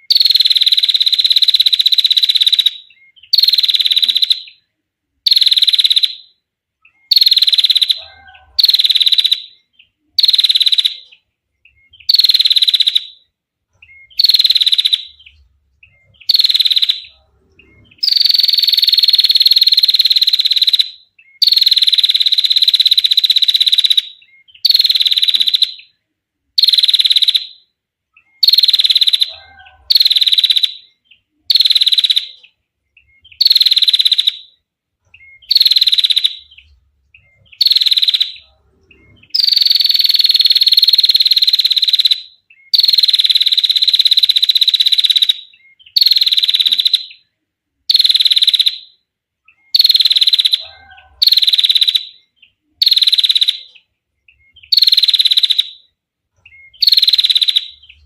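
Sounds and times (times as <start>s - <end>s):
bird ticking trill: 0.0s - 47.3s, 47.9s - 58.0s.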